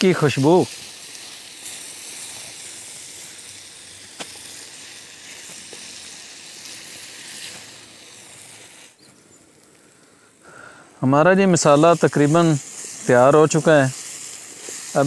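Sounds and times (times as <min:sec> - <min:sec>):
masala sizzling in a frying pan: 0:00.0 - 0:15.0.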